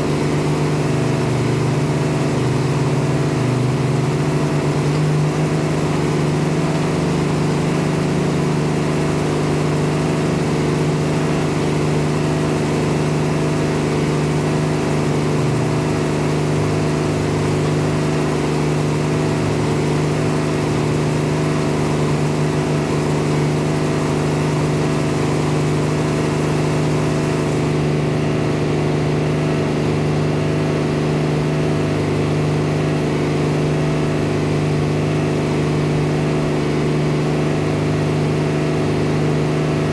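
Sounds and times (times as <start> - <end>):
farm machinery engine droning: 0.0 - 39.9.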